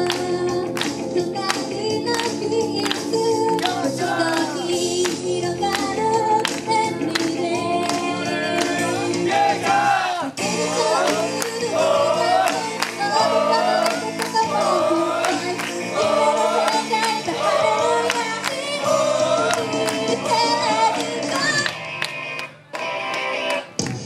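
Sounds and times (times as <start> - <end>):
group of women singing: 0.0 - 21.6
pop backing track with steady beat: 0.0 - 22.5.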